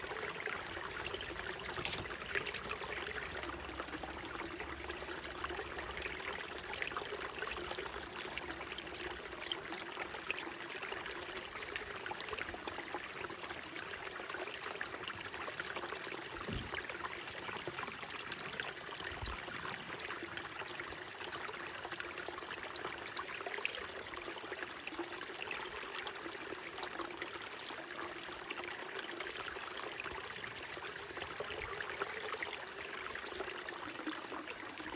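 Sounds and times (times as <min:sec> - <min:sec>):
mountain stream flowing: 0:00.0 - 0:34.9.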